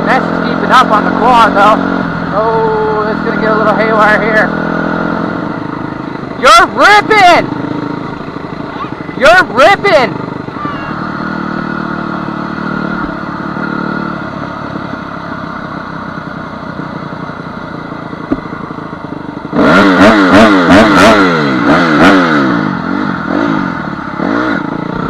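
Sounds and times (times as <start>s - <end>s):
two-stroke dirt bike engine revving: 0.0s - 25.0s.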